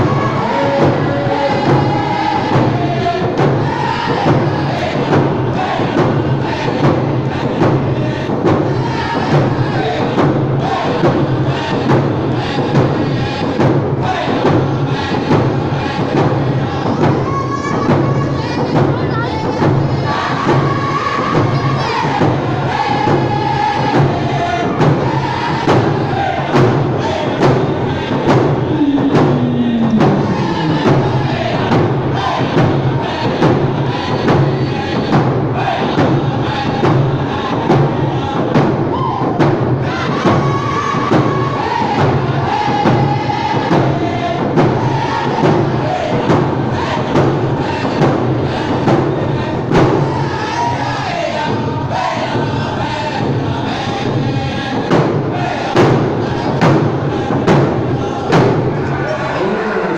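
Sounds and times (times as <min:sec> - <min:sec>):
steady drum beat: 0:00.0 - 0:59.1
group of voices chanting: 0:00.0 - 0:59.9.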